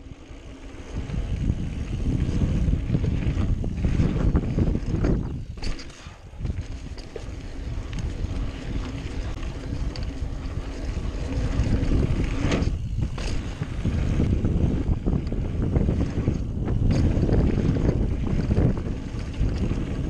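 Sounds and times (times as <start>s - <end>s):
bike tyres rolling over dirt: 0.0s - 20.0s
wind on microphone: 0.8s - 20.0s.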